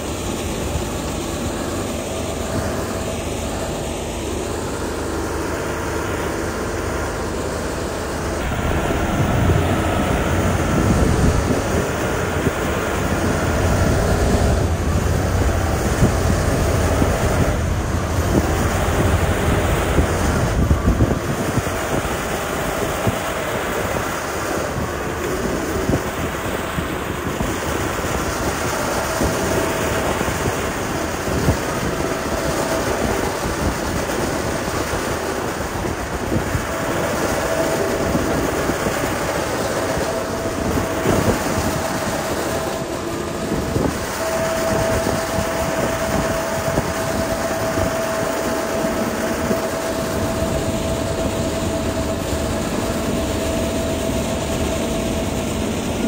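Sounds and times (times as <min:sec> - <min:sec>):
diesel engine rumbling: 0:00.0 - 0:56.0.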